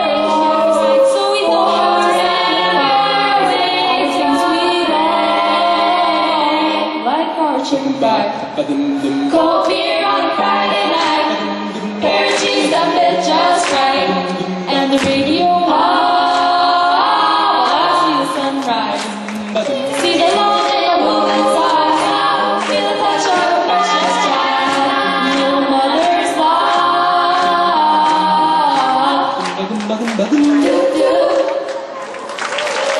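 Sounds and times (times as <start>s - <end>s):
a cappella group singing in harmony: 0.0s - 32.0s.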